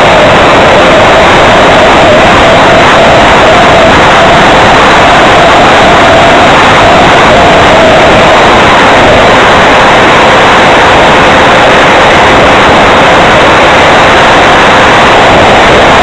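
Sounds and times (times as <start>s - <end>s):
ducted fan and wind rush: 0.0s - 16.0s.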